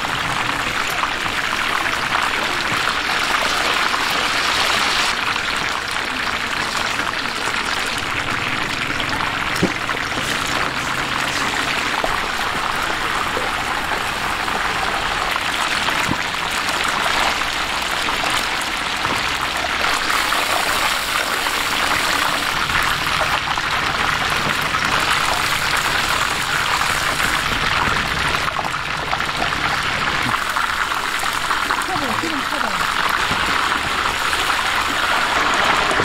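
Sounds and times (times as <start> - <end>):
chicken deep-frying in hot oil: 0.0 - 36.0.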